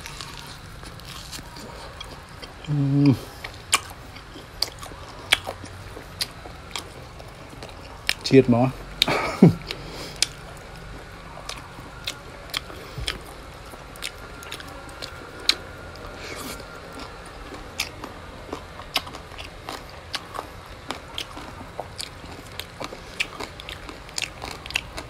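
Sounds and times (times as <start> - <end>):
chewing and biting ribs: 0.0 - 25.0.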